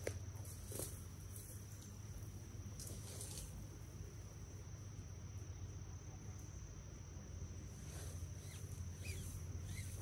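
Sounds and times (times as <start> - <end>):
insects trilling: 0.0 - 10.0
low steady rumble: 0.0 - 10.0.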